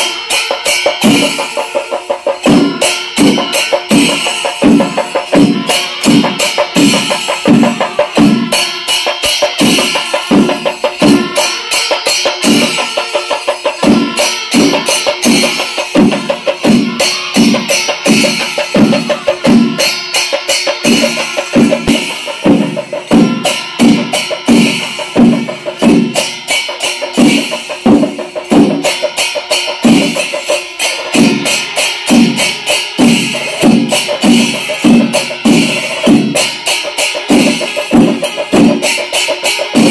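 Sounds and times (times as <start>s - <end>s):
cymbals clashing: 0.0s - 39.9s
massed drums steady beat: 0.0s - 39.9s.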